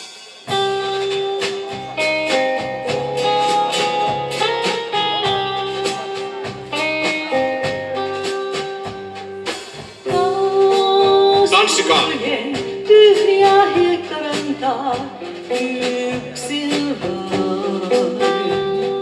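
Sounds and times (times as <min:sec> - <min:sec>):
drum kit: 0:00.0 - 0:19.0
guitar chords: 0:00.5 - 0:19.0
guitar melody: 0:00.5 - 0:19.0.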